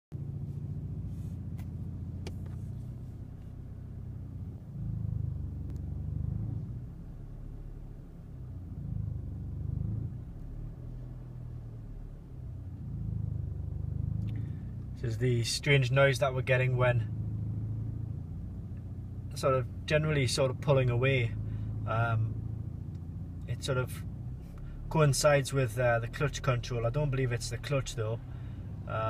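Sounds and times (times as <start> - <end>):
car engine low grumbling rumble: 0.1 - 29.0.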